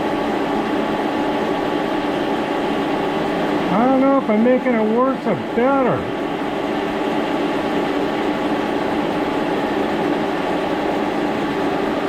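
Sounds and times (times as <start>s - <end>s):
milling machine droning: 0.0s - 12.0s.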